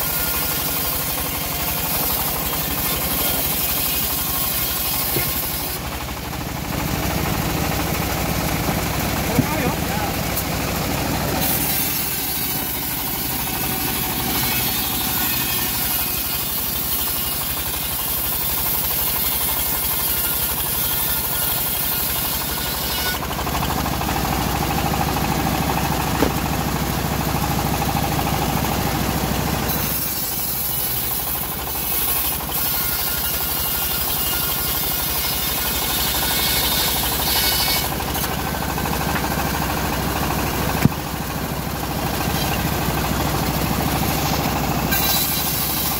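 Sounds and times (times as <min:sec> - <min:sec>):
bandsaw mill cutting wood: 0:00.0 - 0:45.9.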